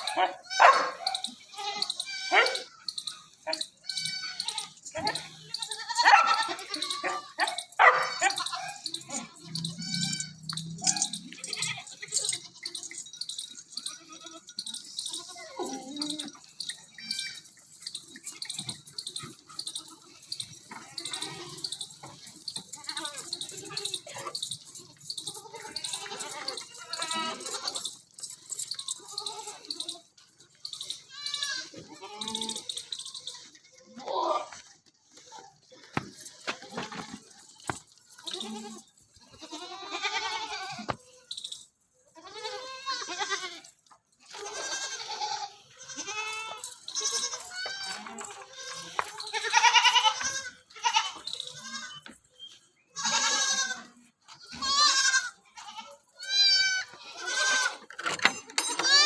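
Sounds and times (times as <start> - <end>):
goat bleating: 0.0 - 28.0, 28.6 - 41.2, 42.1 - 52.2, 52.9 - 57.9, 58.8 - 59.0
hooves on hard ground: 0.0 - 41.8, 42.4 - 59.0.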